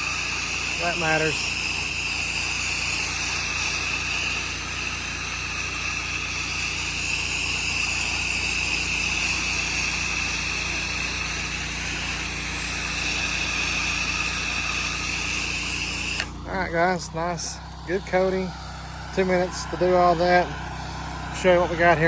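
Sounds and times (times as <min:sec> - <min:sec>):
pressure washer engine running: 0:00.0 - 0:22.0
spray wand hissing: 0:00.0 - 0:22.0.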